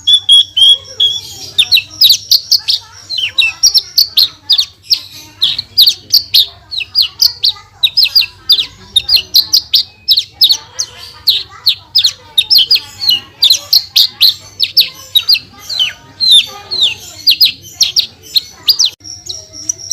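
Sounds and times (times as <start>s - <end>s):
bush lark singing: 0.0s - 19.9s.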